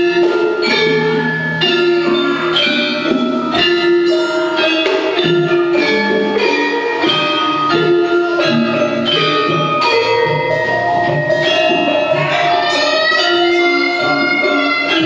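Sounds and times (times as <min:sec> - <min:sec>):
metallophones struck with mallets: 0:00.0 - 0:15.0.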